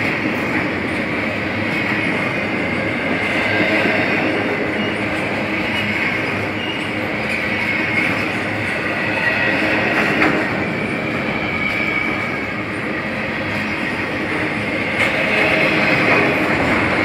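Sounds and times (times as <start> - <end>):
train wheels rumbling on rails: 0.0 - 17.0
high wheel squeal: 0.9 - 17.0.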